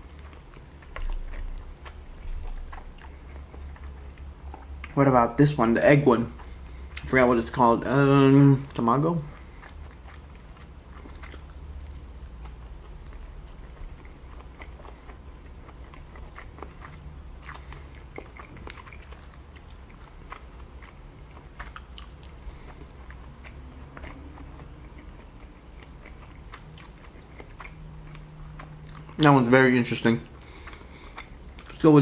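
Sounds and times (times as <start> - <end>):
close chewing with mouth clicks: 0.0 - 5.0, 6.2 - 7.6, 8.6 - 32.0.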